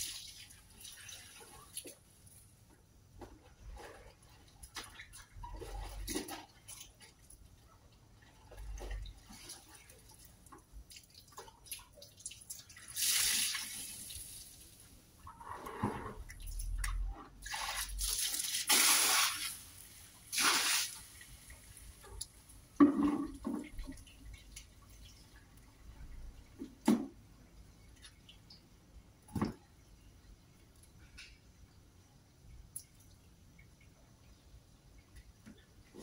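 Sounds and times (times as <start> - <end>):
water sloshing in a bucket: 0.0 - 29.8.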